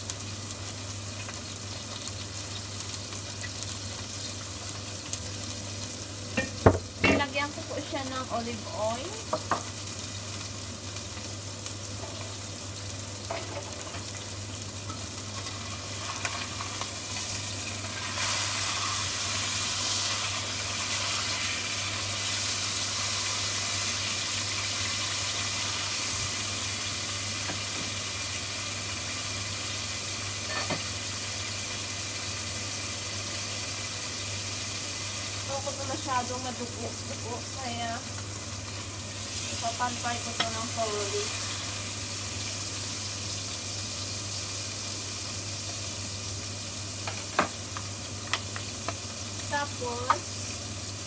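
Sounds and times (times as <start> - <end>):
steak sizzling in a pan: 0.0 - 51.0.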